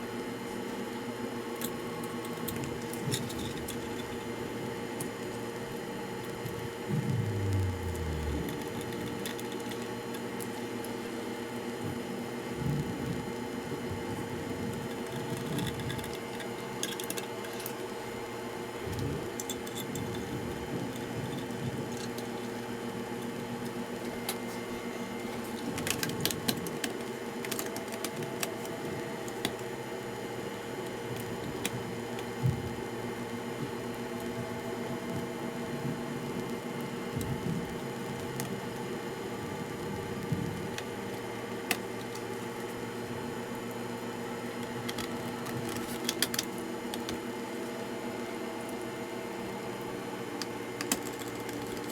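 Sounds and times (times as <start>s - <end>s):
electrical hum: 0.0s - 51.9s.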